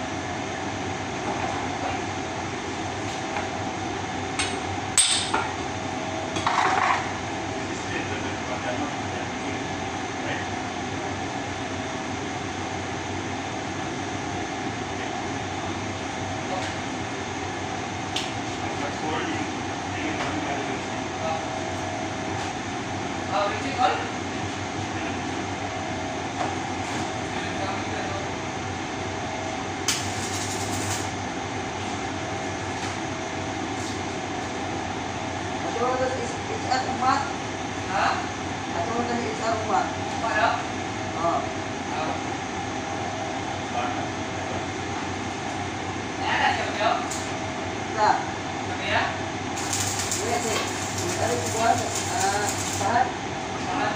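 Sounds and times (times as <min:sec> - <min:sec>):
machinery whirring hum: 0:00.0 - 0:53.9.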